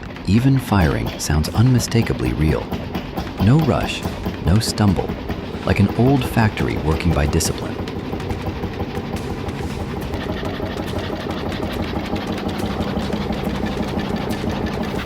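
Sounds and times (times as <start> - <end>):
oil engine knocking steadily: 0.0 - 15.0.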